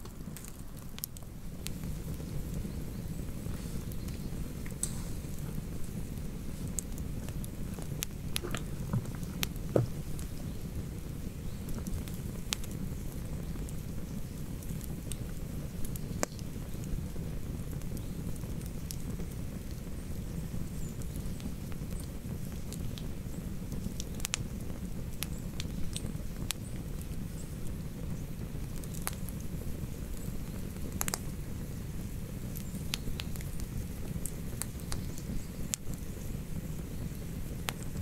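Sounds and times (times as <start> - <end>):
campfire crackles and snaps: 0.0 - 38.0
campfire low rumble: 0.0 - 38.0.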